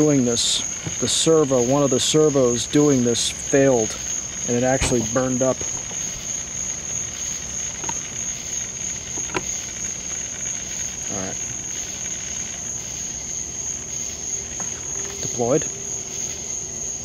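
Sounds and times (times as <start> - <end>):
crickets trilling: 0.0 - 17.0
rising and falling whine: 0.0 - 17.0.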